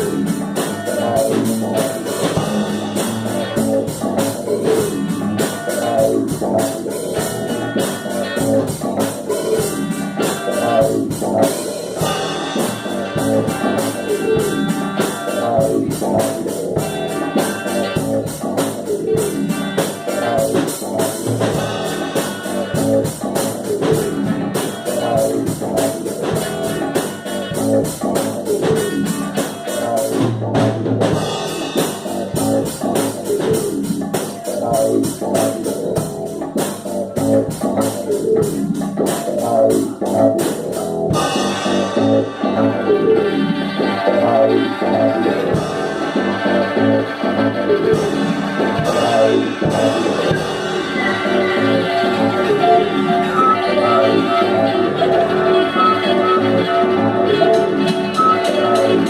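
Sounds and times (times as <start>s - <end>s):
drum kit beat: 0.0s - 59.0s
electric guitars: 0.0s - 59.0s
synthesizer: 0.0s - 59.0s.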